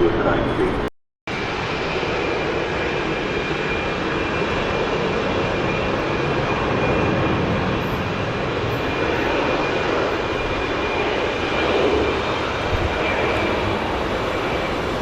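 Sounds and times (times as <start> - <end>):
jet engine rushing with whine: 0.0 - 15.0.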